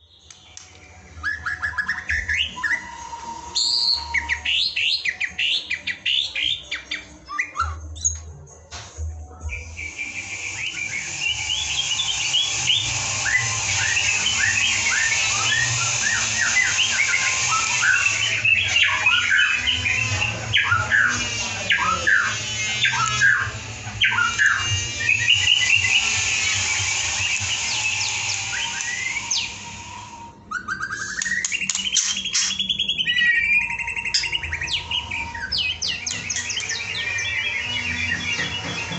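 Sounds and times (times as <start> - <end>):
songbird chirping and whistling: 0.0 - 8.7, 9.3 - 38.9.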